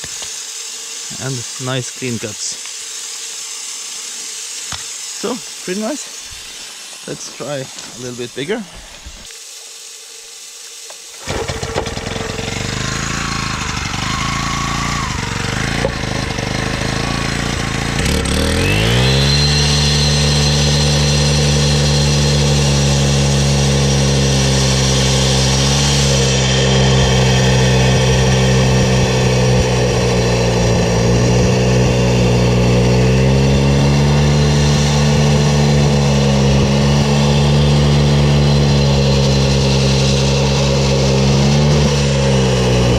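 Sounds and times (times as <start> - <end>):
concrete saw engine revving: 0.0 - 42.9.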